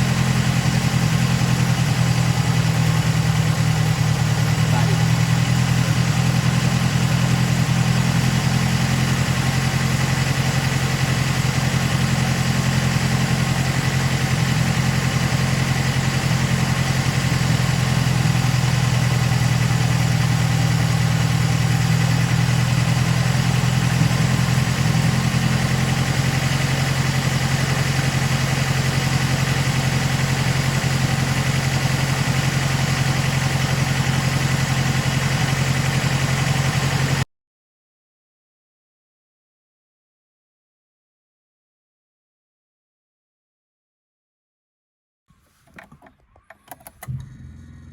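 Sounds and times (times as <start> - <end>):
car engine idling: 0.0 - 37.2, 45.3 - 47.9.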